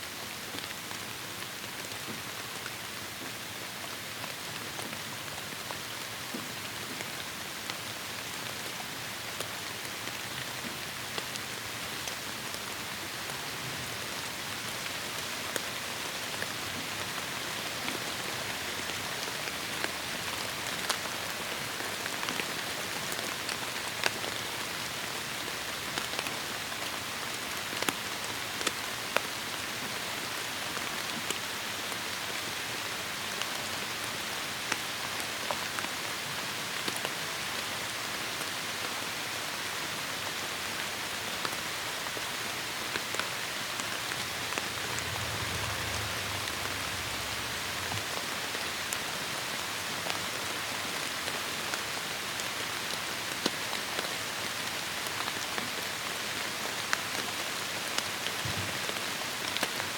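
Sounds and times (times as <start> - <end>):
heavy rain on foliage: 0.0 - 59.9.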